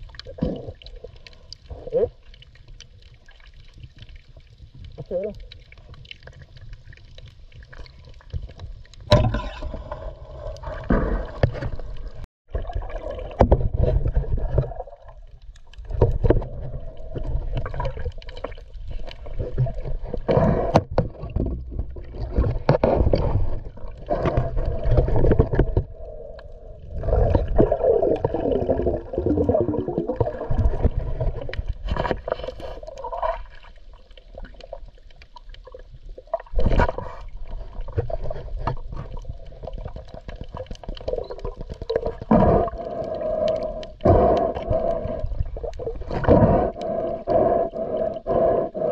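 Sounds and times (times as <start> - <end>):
sea water sloshing and gurgling: 0.0 - 48.9.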